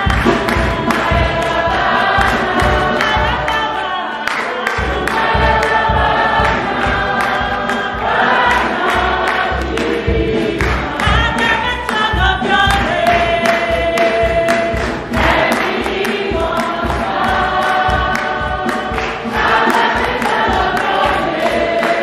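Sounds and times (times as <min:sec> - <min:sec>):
low regular beat: 0:00.0 - 0:03.9, 0:04.8 - 0:22.0
choir singing gospel hymn: 0:00.0 - 0:22.0
hand-clapping on the beat: 0:00.0 - 0:22.0.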